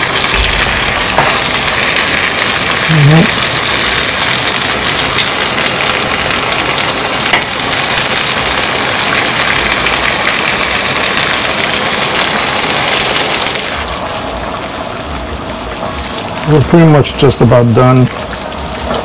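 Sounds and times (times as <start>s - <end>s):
sauce sizzling in a frying pan: 0.0s - 19.0s.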